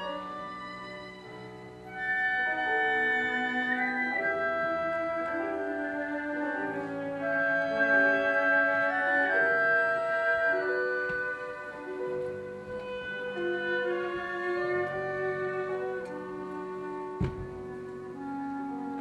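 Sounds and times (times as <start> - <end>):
symphony orchestra playing: 0.0 - 19.0.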